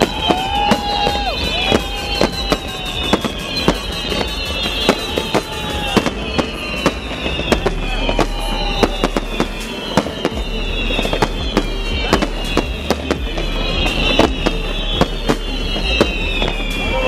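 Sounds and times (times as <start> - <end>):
fireworks bangs: 0.0 - 17.0
fireworks whistling: 0.0 - 17.0.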